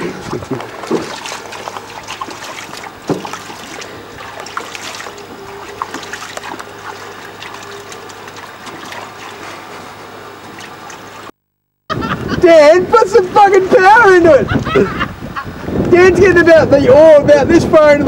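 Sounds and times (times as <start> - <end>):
water splashing in a dinghy: 0.0 - 11.4, 12.2 - 18.0.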